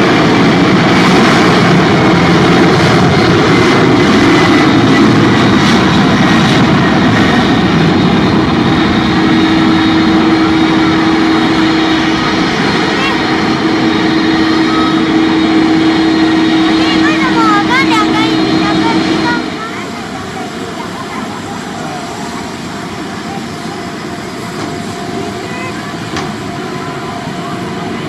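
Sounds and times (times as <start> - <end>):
jet airliner engines: 0.0 - 28.0
steady whine: 0.0 - 28.0.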